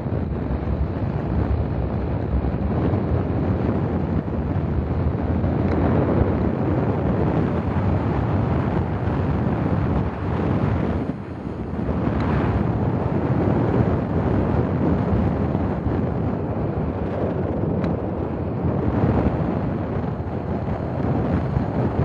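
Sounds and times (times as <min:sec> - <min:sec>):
road rumble: 0:00.0 - 0:22.0
wind buffeting microphone: 0:00.0 - 0:22.0.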